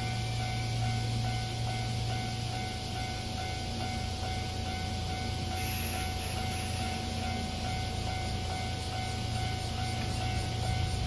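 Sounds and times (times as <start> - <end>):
electric train humming: 0.0 - 11.0
level crossing alarm ringing: 0.0 - 11.0.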